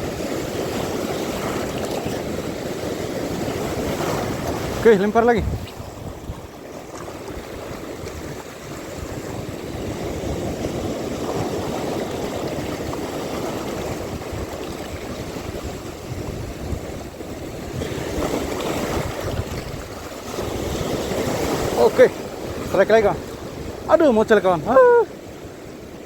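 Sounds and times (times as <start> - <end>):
sea water lapping: 0.0 - 26.0
wind on microphone: 0.0 - 26.0.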